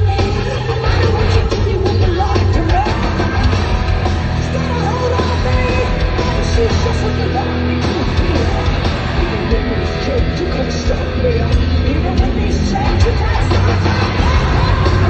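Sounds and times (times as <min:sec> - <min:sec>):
heavy metal band playing live: 0:00.0 - 0:15.0
person singing: 0:00.0 - 0:15.0.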